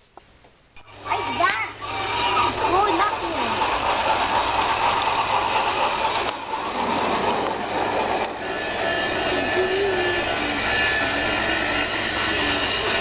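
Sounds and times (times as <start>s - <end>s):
model train running on track: 0.8s - 13.0s.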